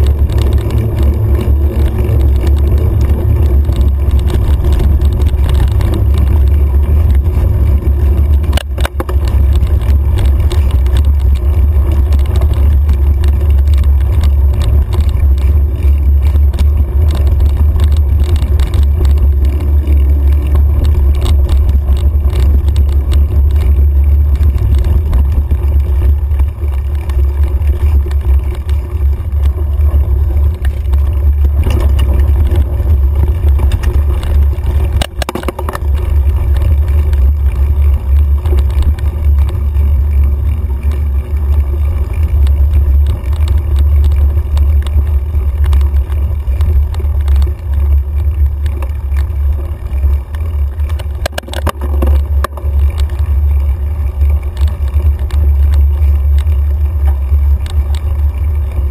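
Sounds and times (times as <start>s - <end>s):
bike rattling and ticking: 0.0s - 58.9s
tyres rolling over gravel: 0.0s - 58.9s.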